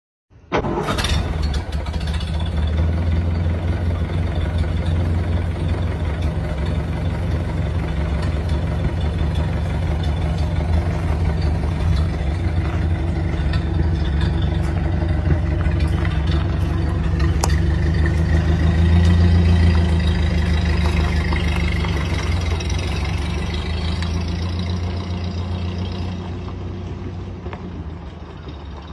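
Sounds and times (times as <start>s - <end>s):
car engine idling: 0.6s - 28.9s.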